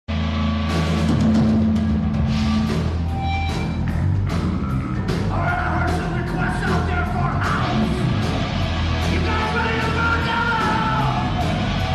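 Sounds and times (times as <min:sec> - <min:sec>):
drums and cymbals: 0:00.1 - 0:11.9
live band playing: 0:00.1 - 0:11.9.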